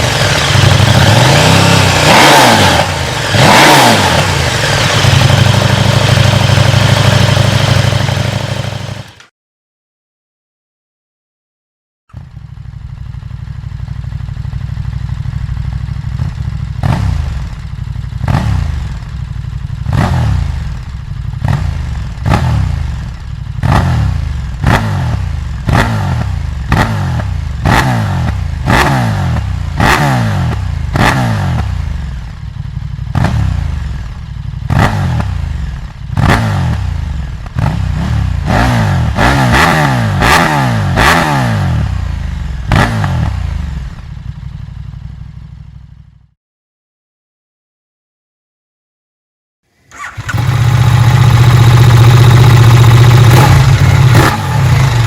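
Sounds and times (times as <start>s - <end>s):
motorcycle engine idling and revving: 0.0s - 9.3s, 12.1s - 46.4s, 49.7s - 55.0s.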